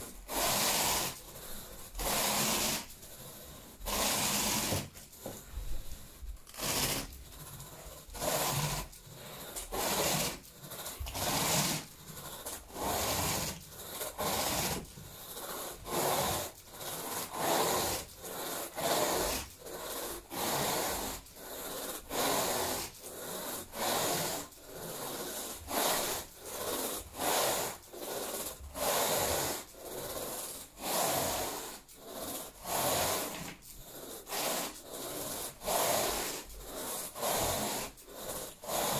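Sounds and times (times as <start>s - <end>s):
rake scraping through carpet: 0.0s - 38.9s.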